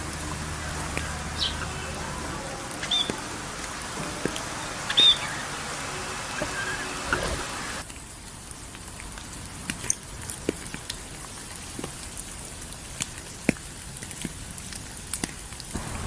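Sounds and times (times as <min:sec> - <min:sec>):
rain hiss: 0:00.0 - 0:16.0
raindrops ticking on surface: 0:00.0 - 0:16.0.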